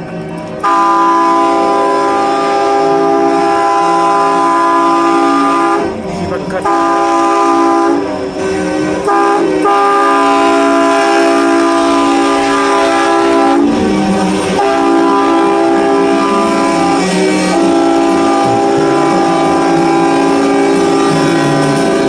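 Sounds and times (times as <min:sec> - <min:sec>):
truck air horns blasting: 0:00.6 - 0:22.0.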